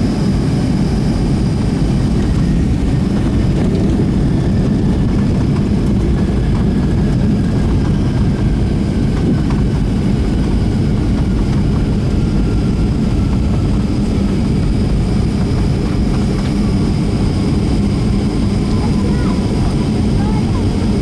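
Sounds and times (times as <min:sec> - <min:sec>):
faint steady whines: 0:00.0 - 0:21.0
jet engine and airflow rumble: 0:00.0 - 0:21.0.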